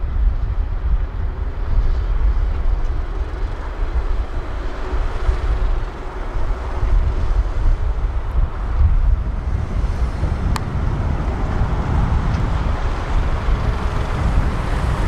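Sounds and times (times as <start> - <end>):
wind buffeting microphone: 0.0 - 15.0
heavy machinery engine rumble: 1.1 - 15.0.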